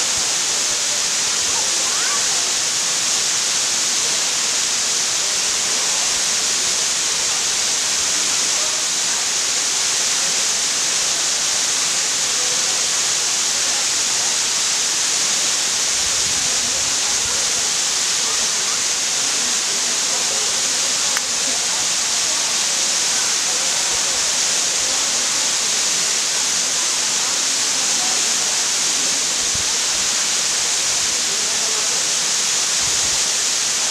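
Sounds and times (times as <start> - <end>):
waterfall pouring onto rock: 0.0 - 33.9.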